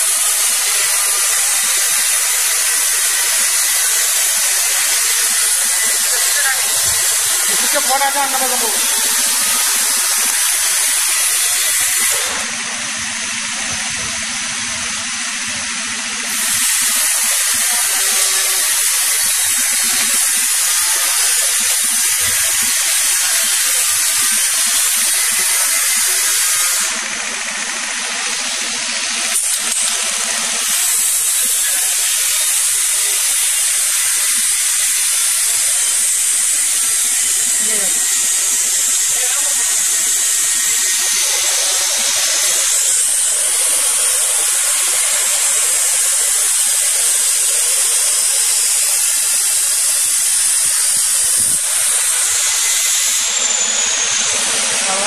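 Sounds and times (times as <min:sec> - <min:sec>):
compressed air hissing: 0:00.0 - 0:55.0.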